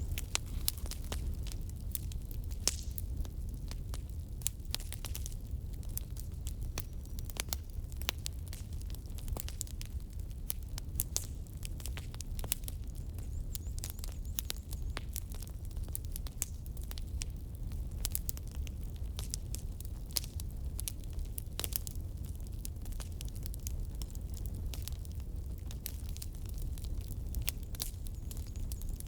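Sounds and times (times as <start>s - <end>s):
firewood crackling and popping: 0.0s - 29.0s
low fire rumble: 0.0s - 29.0s.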